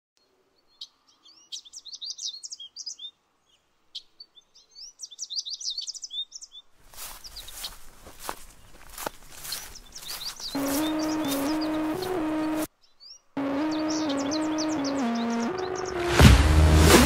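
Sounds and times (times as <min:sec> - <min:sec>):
small birds chirping: 0:00.2 - 0:16.2.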